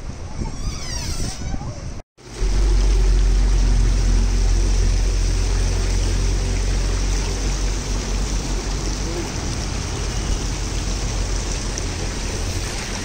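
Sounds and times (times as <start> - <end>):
heavy low rumble: 1.3 - 13.0
water gushing into pool: 2.2 - 13.0
water splashing over foot: 2.2 - 13.0.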